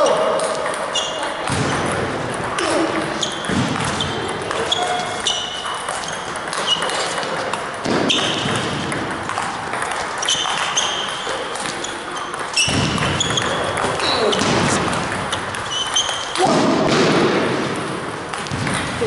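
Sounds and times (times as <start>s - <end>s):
ping-pong balls clicking: 0.0s - 16.6s, 17.8s - 19.0s
sneakers squeaking on wooden floor: 0.0s - 16.9s.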